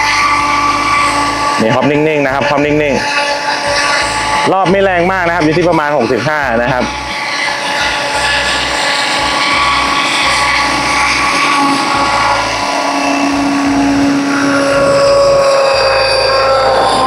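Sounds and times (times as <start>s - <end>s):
helicopter motor and rotor whine: 0.0s - 17.0s
wind buffeting microphone: 0.0s - 17.0s.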